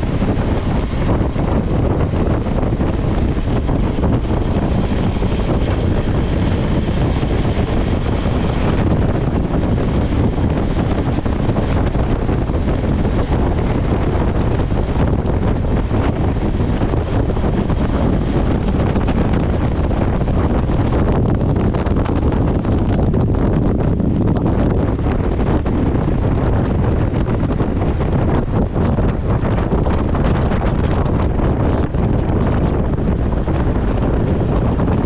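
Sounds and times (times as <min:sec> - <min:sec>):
motorcycle engine and tyre noise: 0:00.0 - 0:35.0
wind rushing over microphone: 0:00.0 - 0:35.0.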